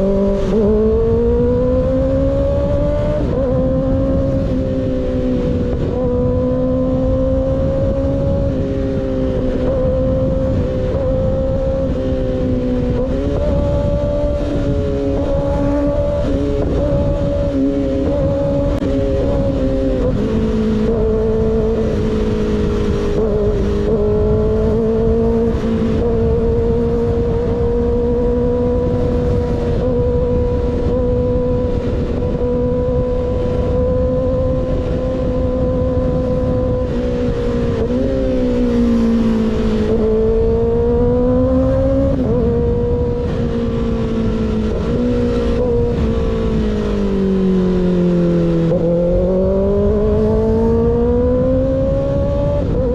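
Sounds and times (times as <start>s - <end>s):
motorcycle engine cruising: 0.0s - 52.9s
wind noise on microphone: 0.0s - 52.9s.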